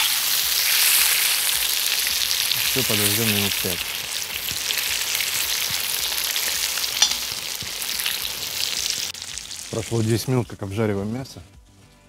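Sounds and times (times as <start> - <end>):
meat sizzling in hot oil: 0.0 - 10.3.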